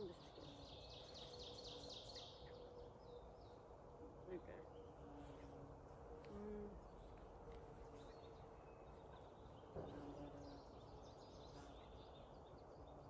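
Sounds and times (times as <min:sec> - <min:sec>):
distant birds chirping: 0:00.0 - 0:13.0
low background noise: 0:00.0 - 0:13.0.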